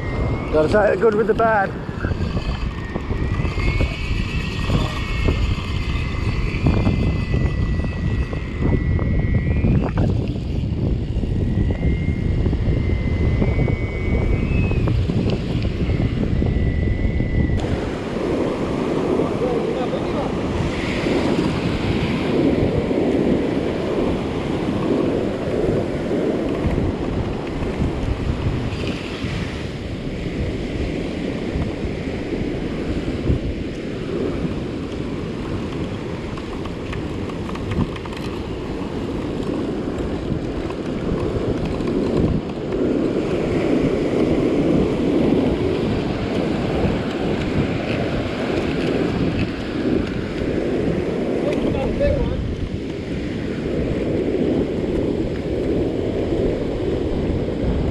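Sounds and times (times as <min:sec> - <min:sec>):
ocean surf breaking: 0:00.0 - 0:08.6, 0:17.6 - 0:57.9
wind buffeting microphone: 0:00.0 - 0:57.9.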